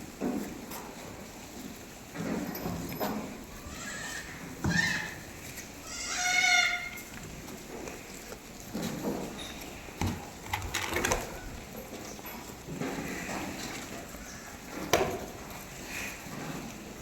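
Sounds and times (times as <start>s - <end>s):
goats knocking and clattering: 0.0s - 17.0s.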